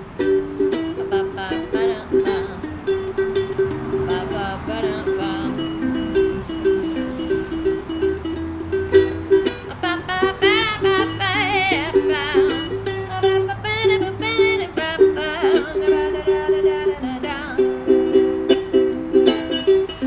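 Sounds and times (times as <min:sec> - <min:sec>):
high wavering melody line: 0:00.0 - 0:20.0
ukulele strumming: 0:00.0 - 0:20.0.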